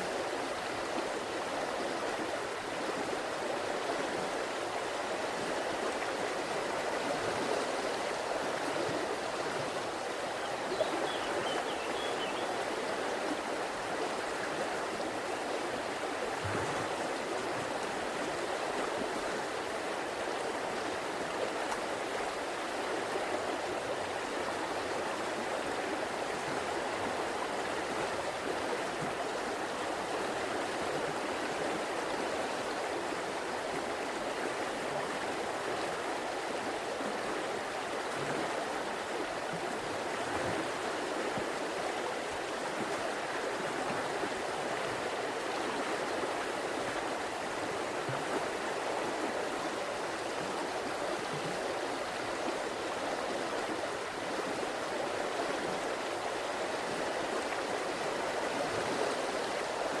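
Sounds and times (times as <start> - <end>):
river water flowing over stones: 0.0 - 60.0.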